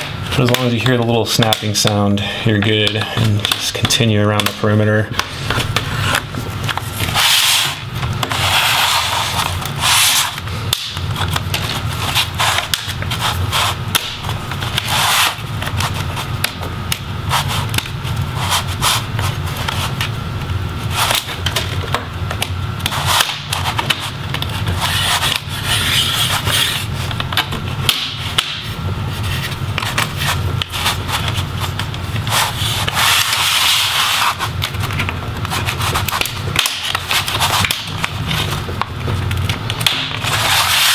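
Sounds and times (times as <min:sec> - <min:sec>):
plastic scraping and rubbing: 0:00.0 - 0:20.2, 0:20.8 - 0:40.9.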